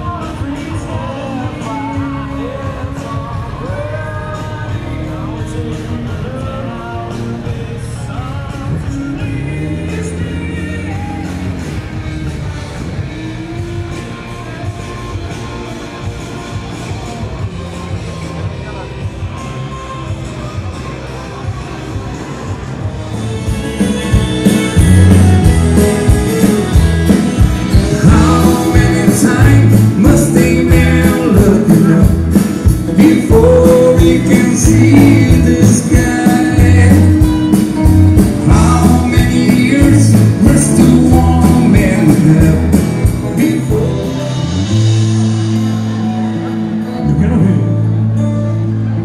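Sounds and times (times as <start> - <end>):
person singing: 0.0 - 15.6, 23.6 - 49.0
drums keeping a steady beat: 0.0 - 48.9
bass notes: 0.0 - 49.0
live rock band playing: 0.0 - 49.0.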